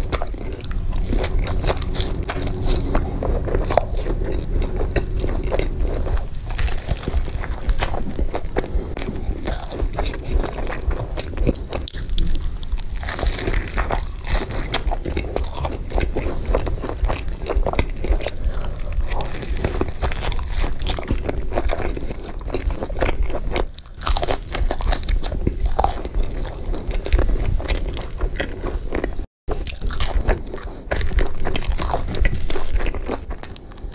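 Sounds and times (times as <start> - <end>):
wet chewing: 0.0 - 33.9.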